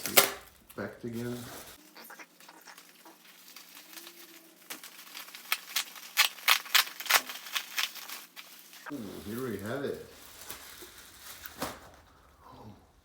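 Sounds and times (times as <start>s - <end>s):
packing material crinkling: 0.0s - 12.4s.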